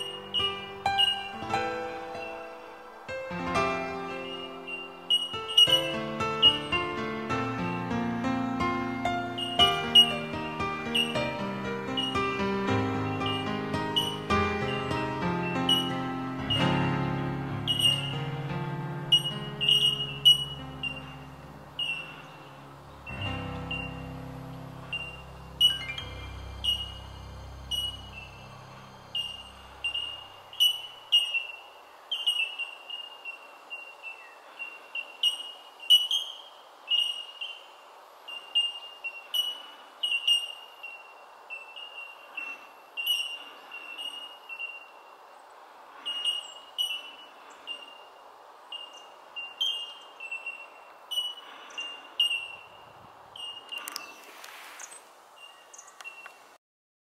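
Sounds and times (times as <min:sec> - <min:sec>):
birds calling ringing notes: 0:00.0 - 0:56.4
outdoor hiss: 0:00.0 - 0:56.6.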